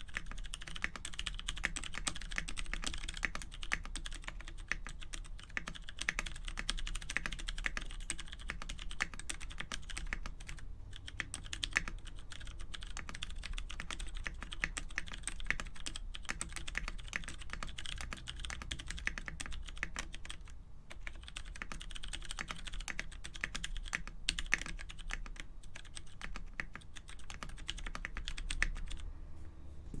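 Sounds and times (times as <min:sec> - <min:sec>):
fast mechanical keyboard typing: 0:00.0 - 0:29.1.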